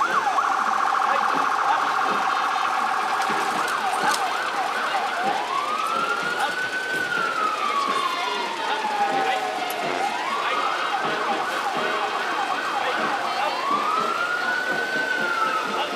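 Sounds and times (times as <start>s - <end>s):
emergency siren: 0.0s - 15.9s.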